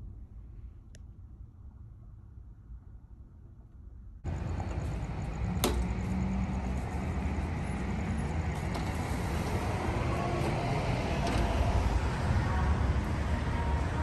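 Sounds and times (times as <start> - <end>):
outdoor rumble and hiss: 0.0 - 14.0.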